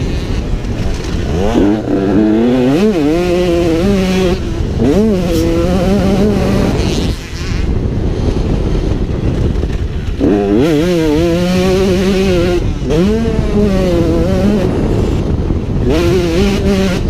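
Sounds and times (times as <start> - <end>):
two-stroke motocross engine revving: 0.0 - 17.0.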